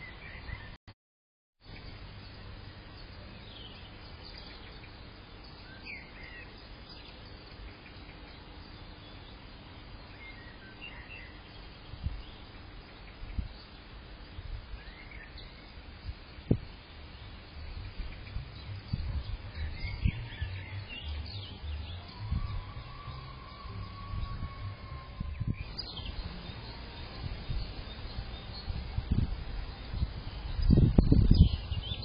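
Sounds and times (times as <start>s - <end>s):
outdoor background noise: 0.0s - 0.8s, 1.6s - 32.0s.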